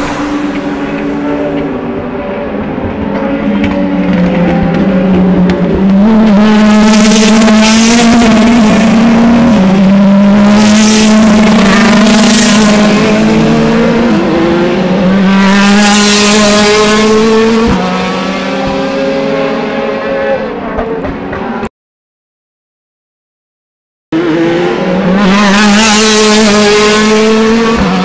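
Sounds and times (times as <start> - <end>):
racing car engines passing: 0.0 - 21.7, 24.2 - 28.0.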